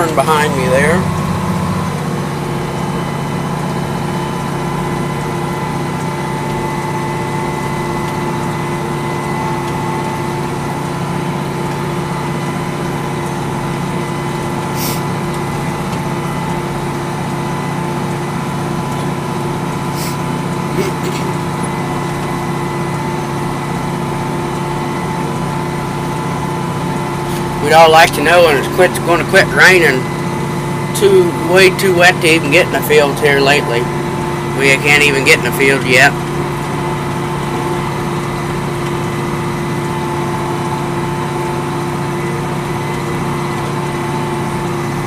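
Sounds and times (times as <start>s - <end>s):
humming tones: 0.0s - 45.0s
tractor diesel engine droning: 0.0s - 45.0s.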